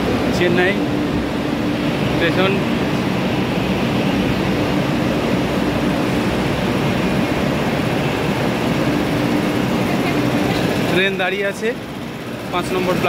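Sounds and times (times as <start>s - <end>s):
busy railway platform drone: 0.0s - 13.0s.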